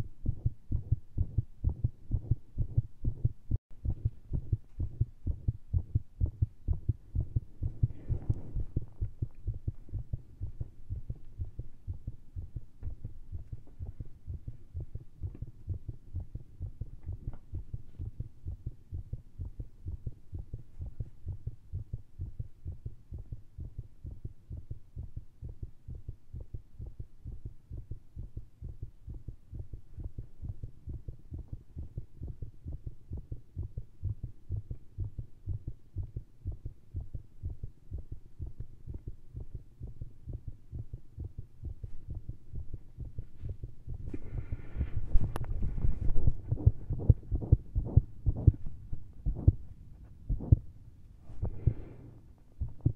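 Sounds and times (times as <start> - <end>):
fast heartbeat through stethoscope: 0.0 - 52.9.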